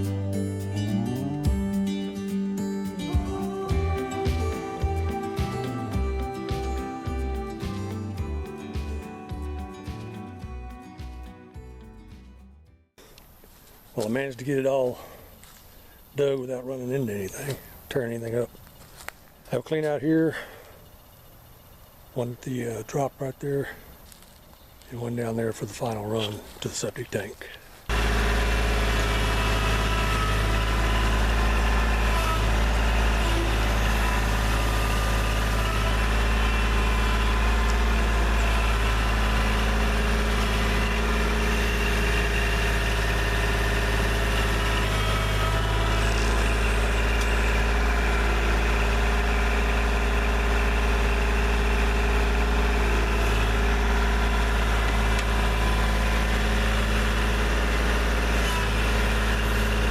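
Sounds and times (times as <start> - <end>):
diesel engine idling: 0.0 - 10.9, 14.4 - 59.9.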